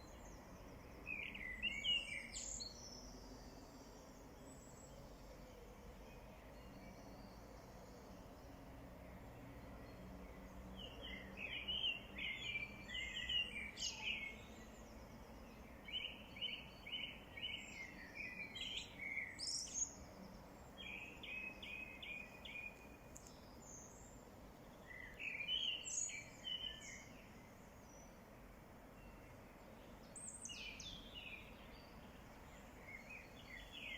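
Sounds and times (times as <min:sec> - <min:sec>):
faint outdoor background: 0:00.0 - 0:33.9
songbird chirping: 0:00.0 - 0:33.9.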